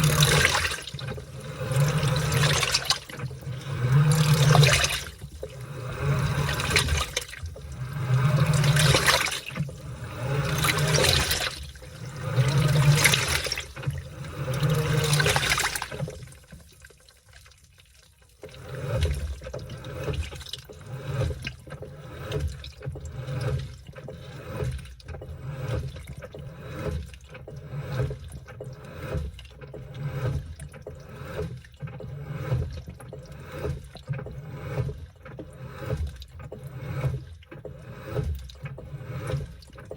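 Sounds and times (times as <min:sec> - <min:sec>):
low motor hum: 0:00.0 - 0:16.7, 0:18.4 - 0:39.9
washing machine water sloshing: 0:00.0 - 0:39.9.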